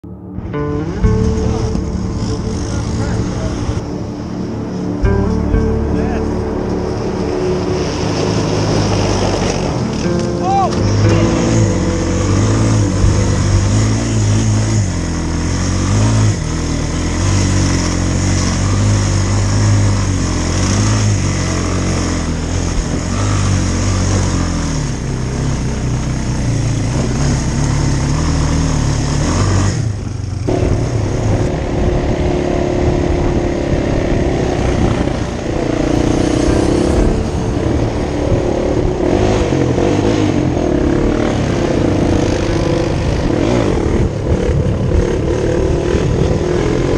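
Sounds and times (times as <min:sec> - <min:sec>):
engine revving: 0:00.0 - 0:46.9.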